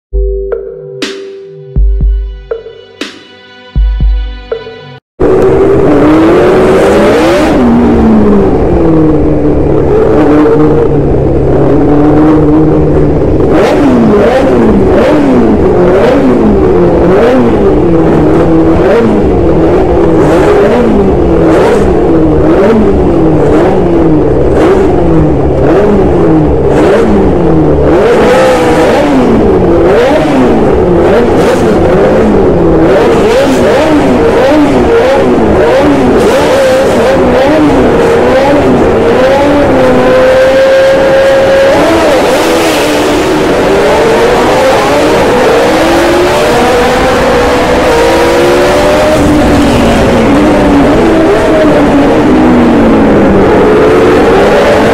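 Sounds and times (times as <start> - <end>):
racing car engine revving: 4.5 - 54.9.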